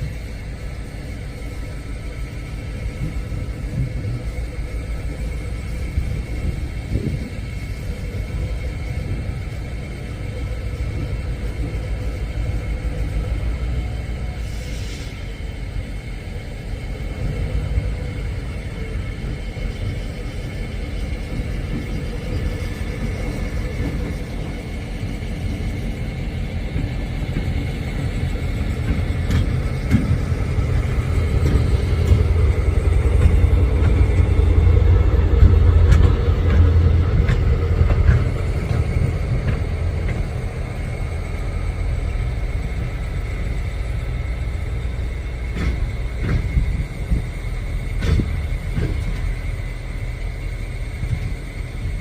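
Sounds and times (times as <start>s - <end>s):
locomotive diesel engine rumbling: 0.0s - 52.0s.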